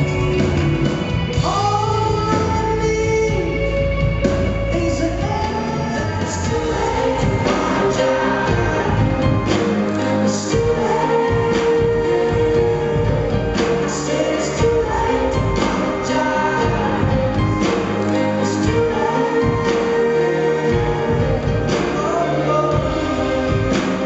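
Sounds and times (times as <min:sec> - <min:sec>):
drums: 0:00.0 - 0:24.0
live pop-rock band playing: 0:00.0 - 0:24.0
person singing: 0:00.0 - 0:24.0
piano: 0:00.0 - 0:24.0.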